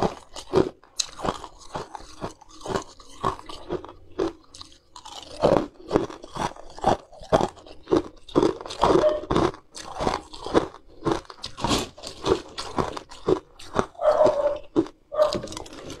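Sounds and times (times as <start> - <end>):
chewing and crunching ice cubes: 0.0 - 16.0.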